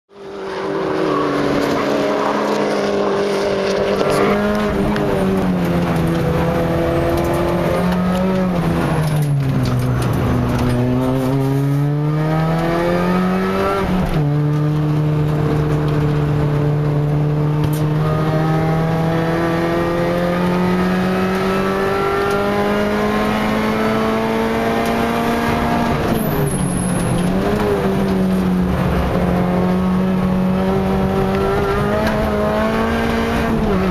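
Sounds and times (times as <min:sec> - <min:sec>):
race car engine revving: 0:00.1 - 0:33.9.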